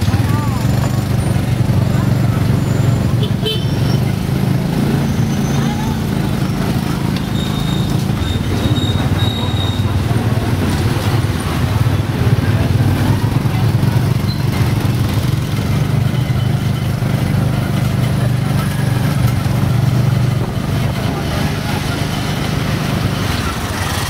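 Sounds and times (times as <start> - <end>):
motorcycle engine running: 0.0 - 24.0
road and traffic noise: 0.0 - 24.0.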